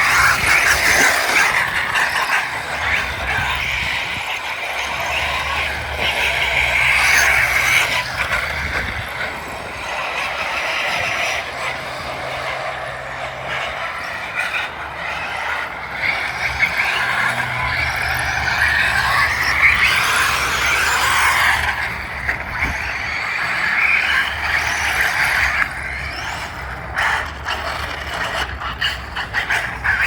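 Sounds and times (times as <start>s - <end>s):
toy car electric motor whining: 0.0s - 30.0s.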